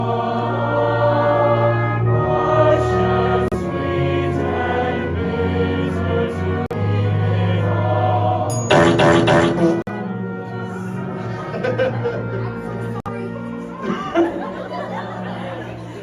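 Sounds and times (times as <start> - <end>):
orchestral accompaniment: 0.0 - 16.0.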